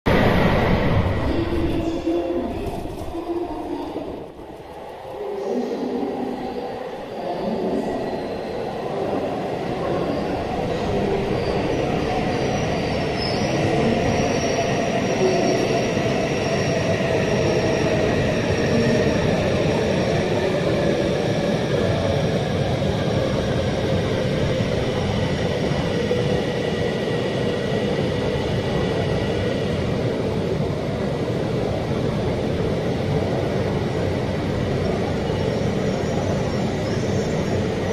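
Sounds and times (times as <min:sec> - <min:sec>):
train rumbling on rails: 0:00.0 - 0:37.9.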